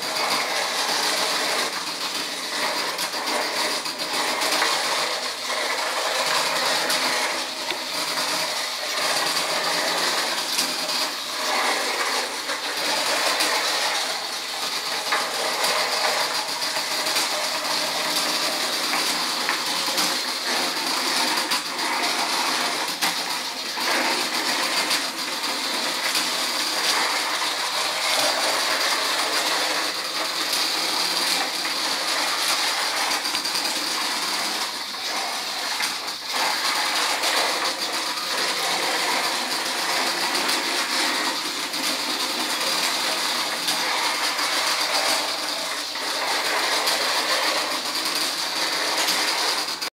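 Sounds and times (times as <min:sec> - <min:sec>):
small clicks and rattles: 0:00.0 - 0:49.9.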